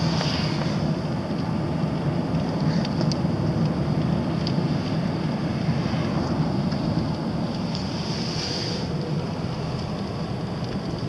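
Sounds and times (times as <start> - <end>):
car engine and road noise: 0.0 - 11.0
tyres on a wet road: 0.0 - 11.0.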